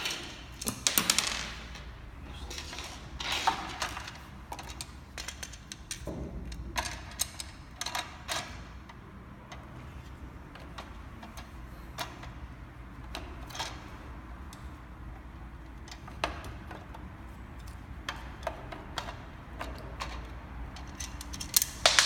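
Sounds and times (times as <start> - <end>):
light clicks and taps of parts: 2.5 - 22.0.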